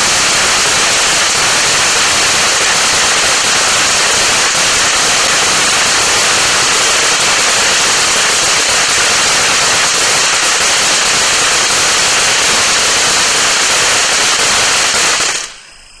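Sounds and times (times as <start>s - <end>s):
firework fountain hissing and crackling: 0.0s - 16.0s.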